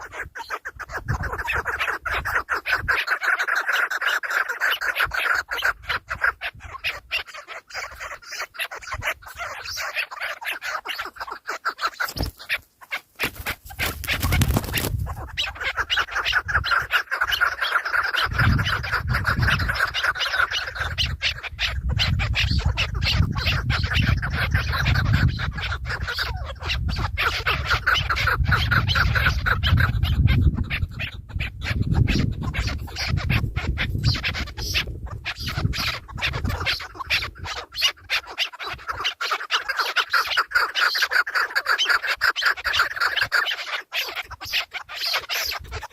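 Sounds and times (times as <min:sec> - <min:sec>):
birds chattering: 0:00.0 - 0:45.9.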